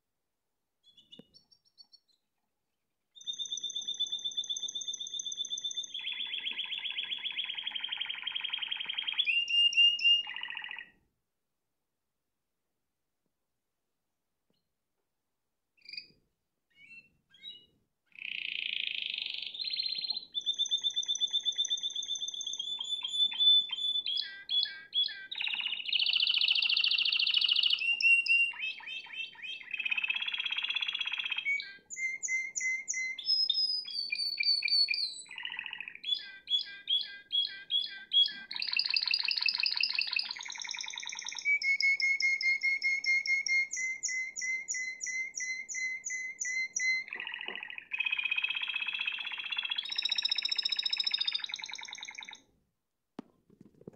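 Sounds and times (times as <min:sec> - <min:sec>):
canary singing trills: 0:03.2 - 0:11.0, 0:15.8 - 0:52.5.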